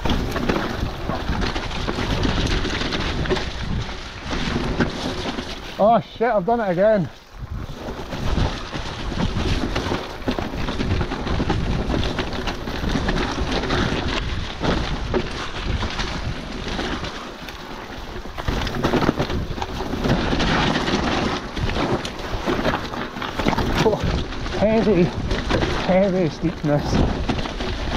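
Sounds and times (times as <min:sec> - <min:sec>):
bike clattering and rattling: 0:00.0 - 0:27.9
wind buffeting microphone: 0:00.0 - 0:27.9.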